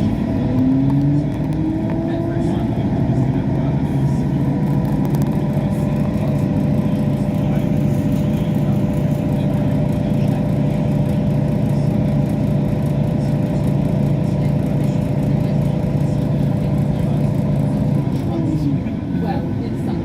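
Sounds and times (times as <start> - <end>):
train engine and wheels drone: 0.0 - 20.0.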